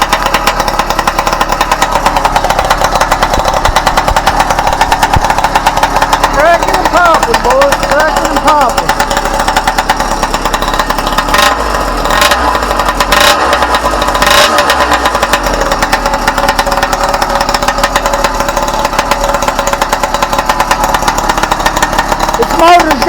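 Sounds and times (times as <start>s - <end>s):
small engine cracking and popping: 0.0s - 23.0s.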